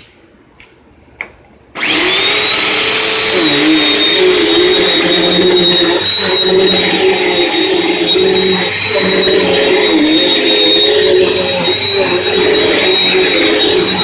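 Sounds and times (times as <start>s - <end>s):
vacuum cleaner running: 1.8s - 14.0s.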